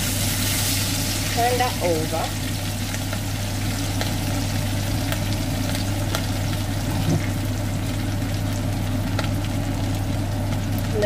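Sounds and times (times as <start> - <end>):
extractor fan humming: 0.0 - 11.0
fish sizzling in oil: 0.0 - 11.0.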